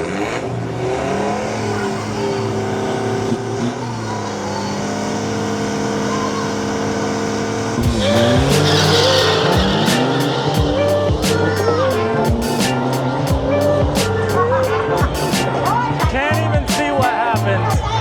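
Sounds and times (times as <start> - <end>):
racing car engines revving: 0.0 - 18.0.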